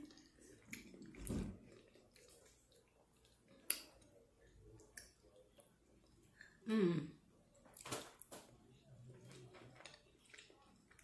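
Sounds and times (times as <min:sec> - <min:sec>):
wet chewing: 0:00.0 - 0:06.6, 0:07.6 - 0:11.0.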